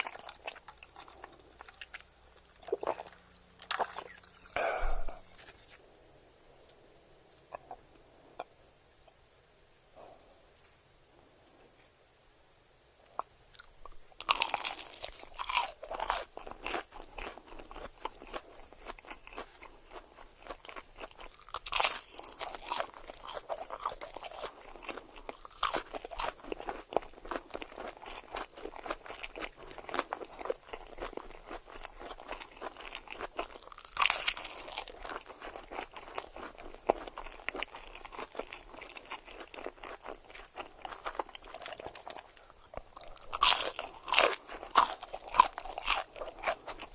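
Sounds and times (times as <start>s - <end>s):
crunching bites: 0.0s - 5.6s, 13.2s - 46.9s
crackly chewing: 0.0s - 5.9s, 6.6s - 9.2s, 13.0s - 46.9s.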